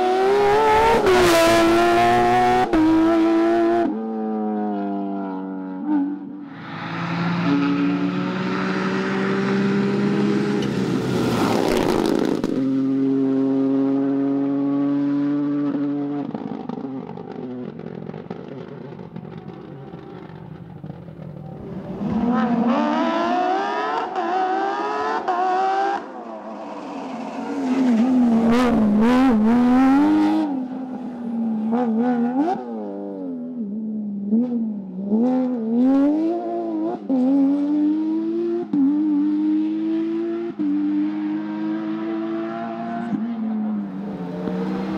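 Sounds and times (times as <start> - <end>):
rally car engine revving: 0.0 - 5.1, 5.7 - 44.9.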